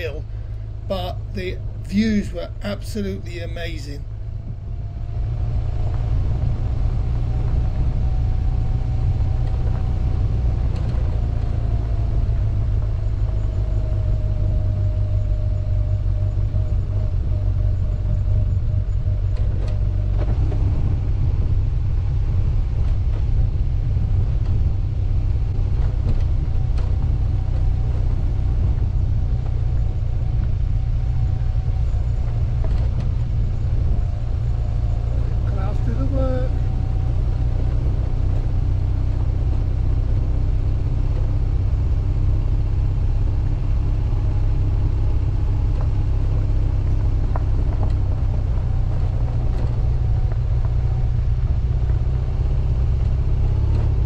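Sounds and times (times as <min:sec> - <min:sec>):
motorcycle engine low rumble: 0:00.0 - 0:54.0.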